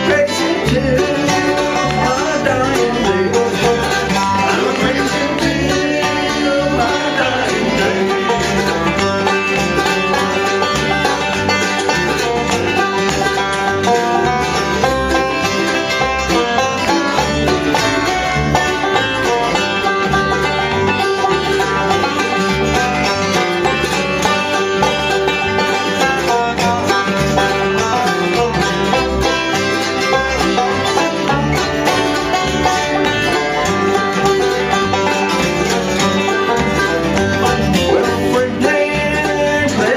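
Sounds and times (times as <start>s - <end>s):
banjo picking: 0.0s - 39.9s
bass beat: 0.0s - 39.9s
guitar: 0.0s - 39.9s.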